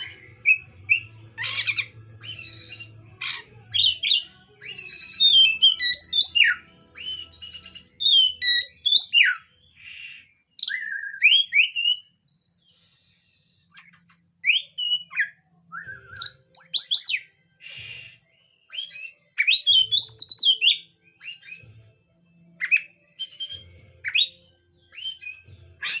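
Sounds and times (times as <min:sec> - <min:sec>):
harsh raspy bird notes: 0:00.0 - 0:12.0, 0:16.1 - 0:21.6, 0:22.6 - 0:26.0
bird singing whistled phrases: 0:00.0 - 0:21.7, 0:22.6 - 0:26.0.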